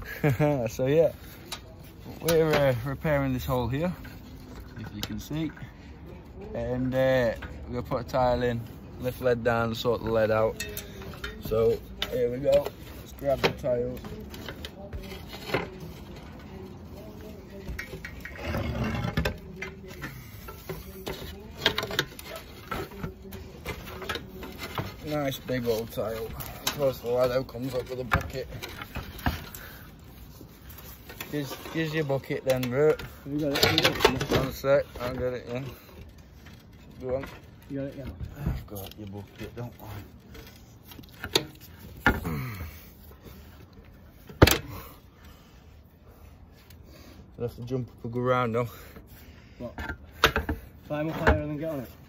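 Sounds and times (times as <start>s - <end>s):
roof tiles clacking and scraping: 0.0s - 52.0s.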